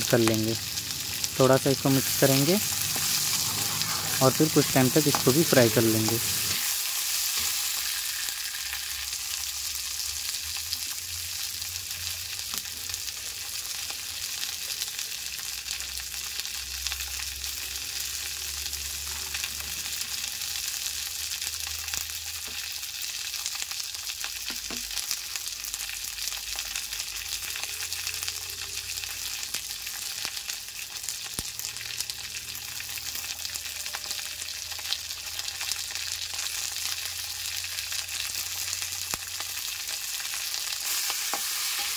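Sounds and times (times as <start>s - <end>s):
corn frying in hot oil: 0.0s - 41.9s.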